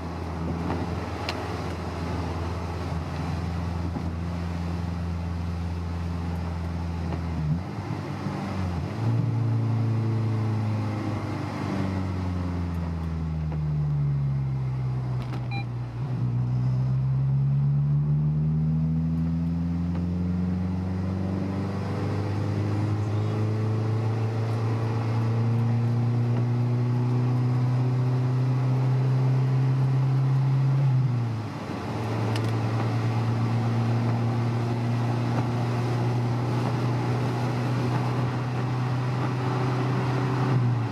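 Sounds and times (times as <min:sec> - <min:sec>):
car engine from inside: 0:00.0 - 0:40.9.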